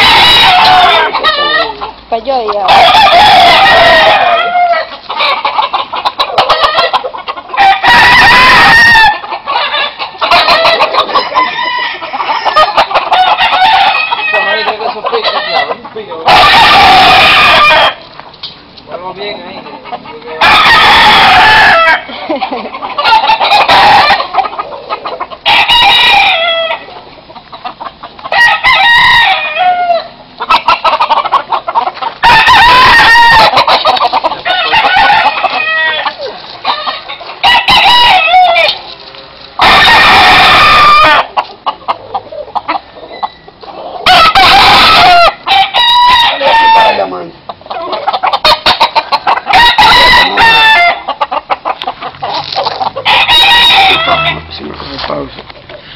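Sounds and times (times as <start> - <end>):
clucking: 0.0 - 28.8, 29.4 - 55.9
roosters crowing: 0.0 - 55.9.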